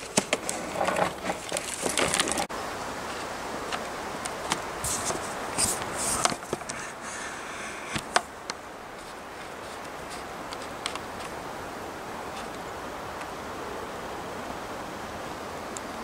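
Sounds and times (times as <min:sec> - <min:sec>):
wind through trees: 0:00.0 - 0:16.0.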